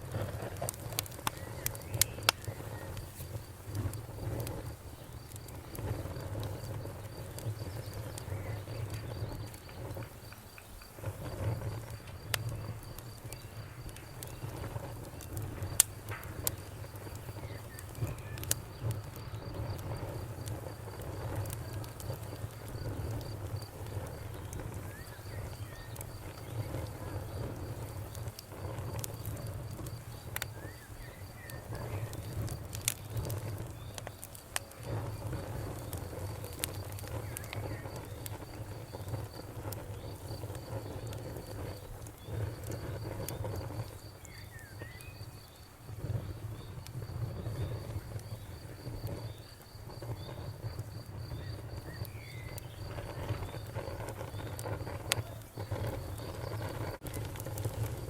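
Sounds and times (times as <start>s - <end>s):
bonfire crackling: 0.0s - 58.0s
crickets chirping: 0.0s - 58.0s.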